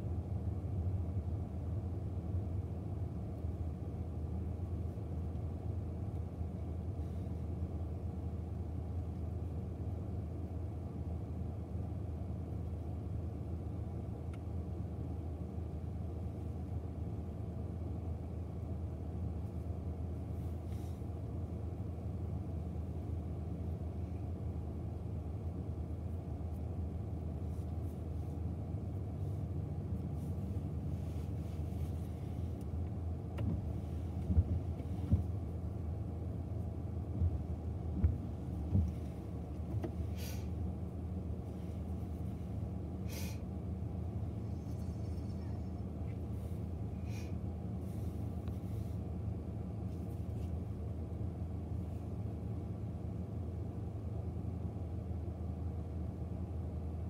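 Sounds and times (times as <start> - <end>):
freight train rumble: 0.0 - 57.0.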